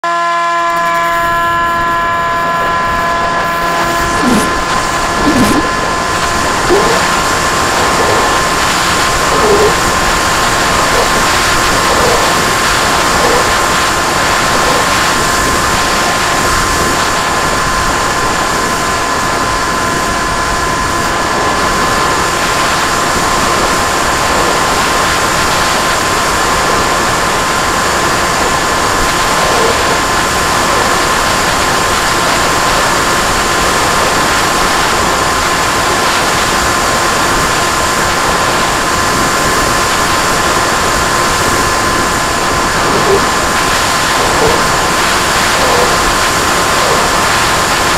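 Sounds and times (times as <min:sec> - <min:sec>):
model aircraft motor whine: 0:00.0 - 0:47.9
propeller and wind rush: 0:02.4 - 0:47.9.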